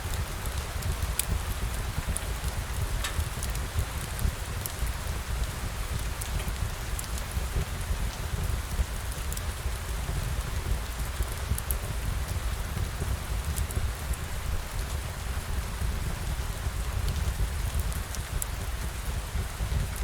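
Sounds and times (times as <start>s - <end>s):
steady rain falling: 0.0s - 20.0s
raindrop ticks: 0.1s - 15.2s, 16.2s - 20.0s.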